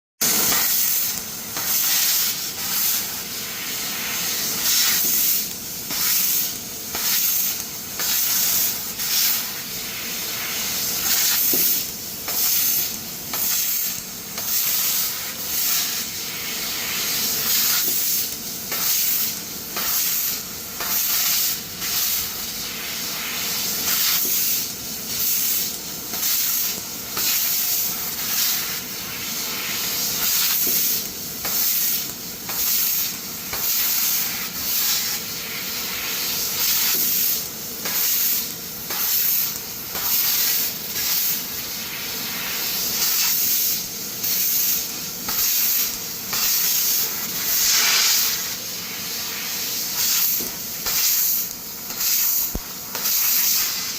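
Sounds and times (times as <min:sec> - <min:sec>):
laser cutter hissing and sizzling: 0:00.2 - 0:53.9.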